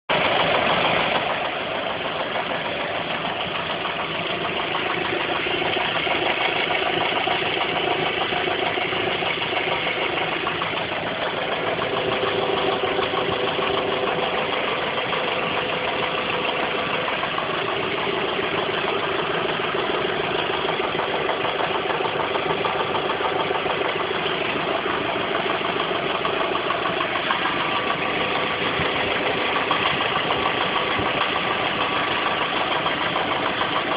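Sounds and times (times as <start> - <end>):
car engine idling: 0.0 - 33.9
engine knocking clatter: 0.0 - 33.9.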